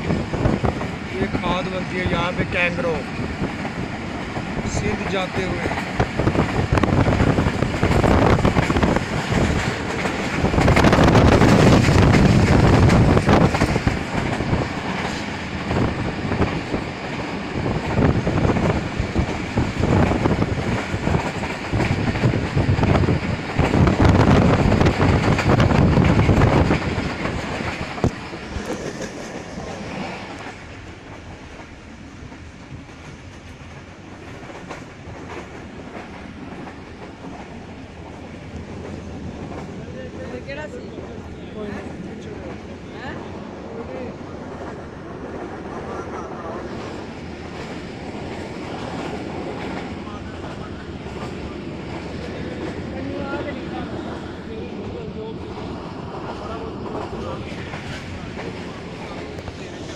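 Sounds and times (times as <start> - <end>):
train running noise on board: 0.0 - 59.9.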